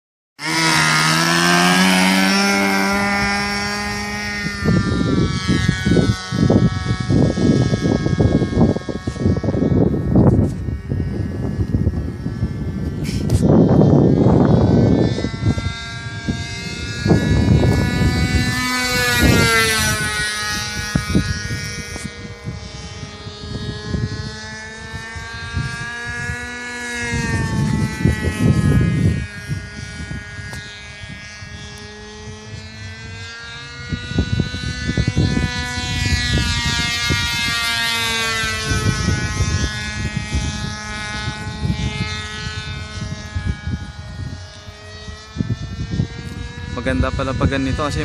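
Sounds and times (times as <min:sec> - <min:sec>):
model airplane engine buzzing: 0:00.4 - 0:48.0
wind rumble on microphone: 0:00.4 - 0:48.0.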